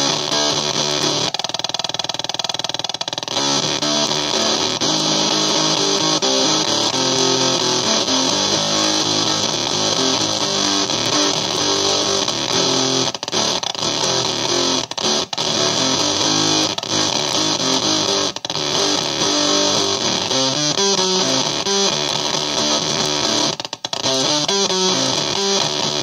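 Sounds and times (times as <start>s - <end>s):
fuzz electric guitar riff: 0.0s - 26.0s
stuttery crackle: 0.0s - 26.0s.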